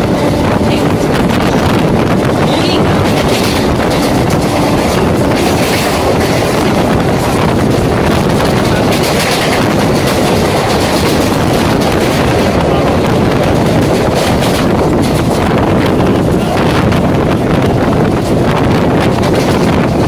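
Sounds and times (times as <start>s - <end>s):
train wheels on rails: 0.0s - 20.0s
wind on microphone: 0.0s - 20.0s.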